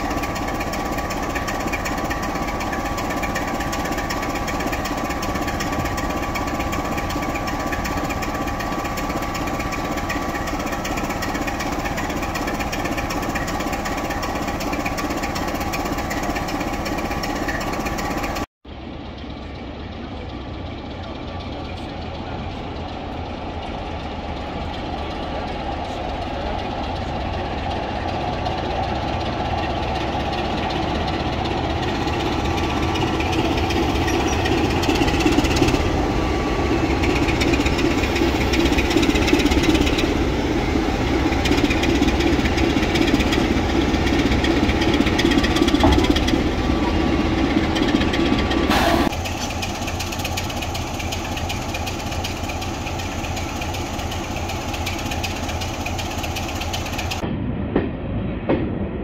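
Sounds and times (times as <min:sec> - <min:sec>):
diesel train engine rumbling: 0:00.0 - 0:59.0.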